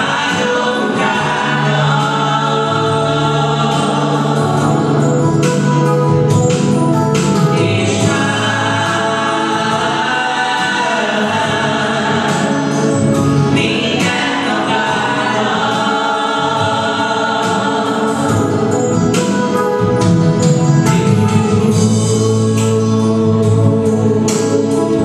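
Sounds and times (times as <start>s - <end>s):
woman and man singing gospel: 0.0s - 5.7s, 7.5s - 19.7s, 21.0s - 25.0s
electronic keyboard chords: 0.0s - 25.0s.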